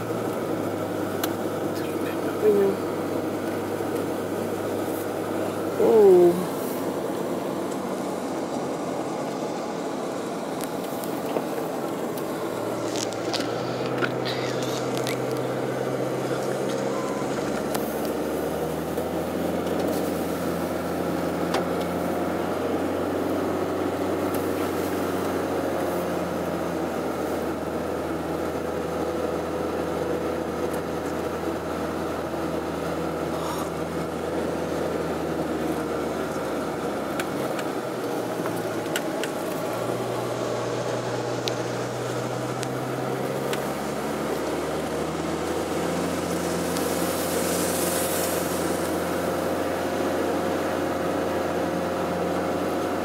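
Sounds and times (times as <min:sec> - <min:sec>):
car engine inside cabin: 0:00.0 - 0:53.0.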